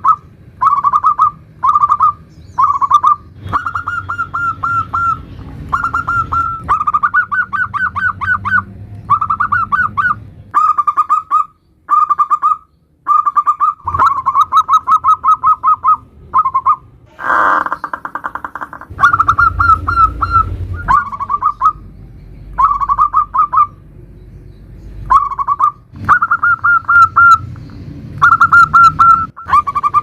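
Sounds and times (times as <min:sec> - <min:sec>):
doves cooing: 0:00.0 - 0:21.8, 0:25.1 - 0:27.4.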